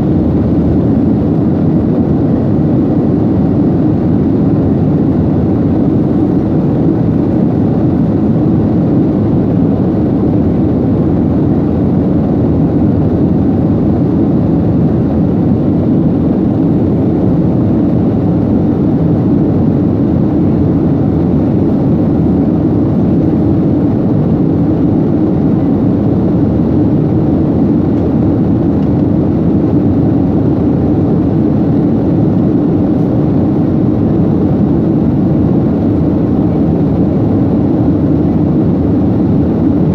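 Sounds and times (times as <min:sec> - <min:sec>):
jet engines roaring in cabin: 0:00.0 - 0:39.9.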